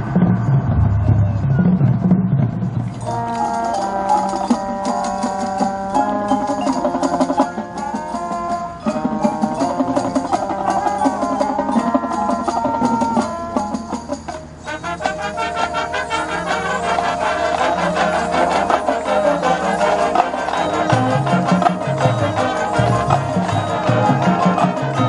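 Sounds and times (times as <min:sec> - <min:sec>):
mallet percussion: 0:00.0 - 0:25.0
marching band playing: 0:00.0 - 0:25.0.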